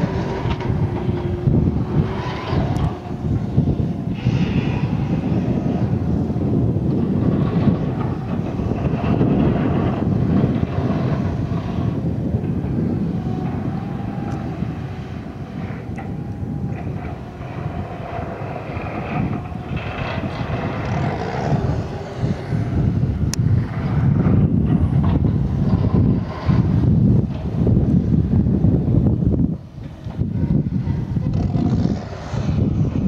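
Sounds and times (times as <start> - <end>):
distant diesel engine drone: 0.0 - 33.0.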